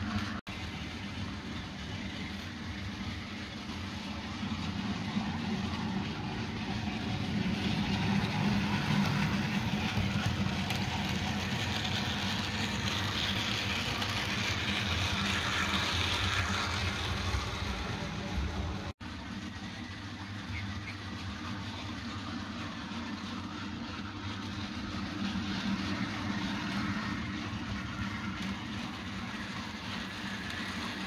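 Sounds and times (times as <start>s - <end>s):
model train motor hum: 0.0s - 31.0s
wheel and track noise: 0.0s - 31.0s.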